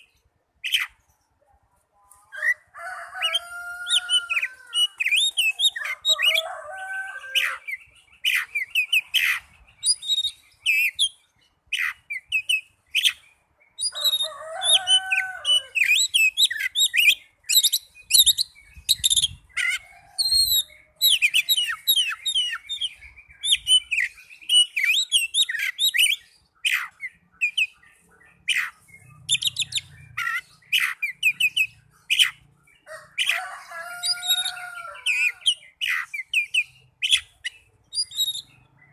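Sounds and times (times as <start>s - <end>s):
bird singing chirps and trills: 0.0s - 1.6s, 2.2s - 38.9s.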